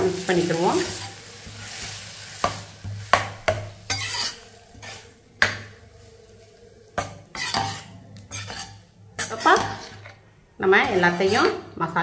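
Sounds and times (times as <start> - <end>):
spoon stirring thick mixture: 0.2 - 11.8.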